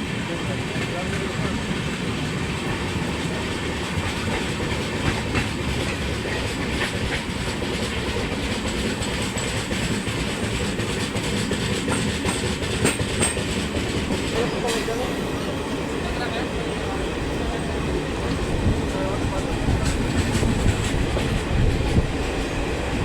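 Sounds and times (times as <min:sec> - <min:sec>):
train wheels clicking on rails: 0:00.0 - 0:23.0.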